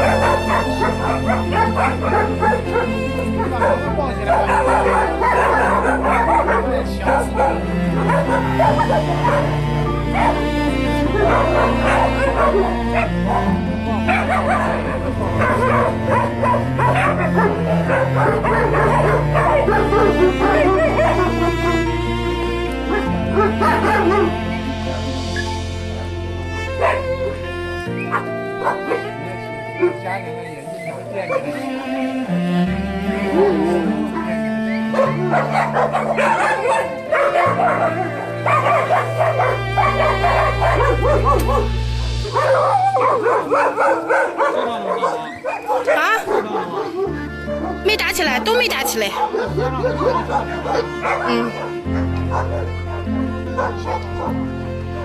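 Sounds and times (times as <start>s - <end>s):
dogs yipping and barking: 0.0s - 10.3s, 11.1s - 21.9s, 26.7s - 32.2s, 33.2s - 47.8s, 48.7s - 55.0s
background music: 0.0s - 55.0s.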